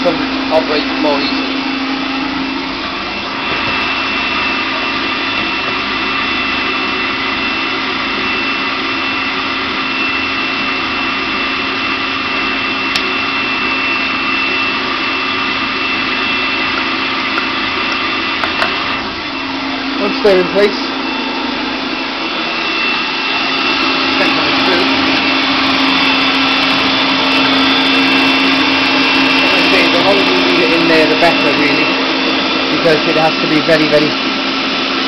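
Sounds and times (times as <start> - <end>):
blender motor humming and whining: 0.0 - 35.0.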